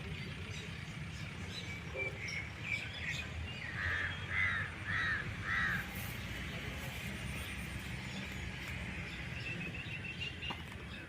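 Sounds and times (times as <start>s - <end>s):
bird chirping and calling: 0.0s - 11.0s.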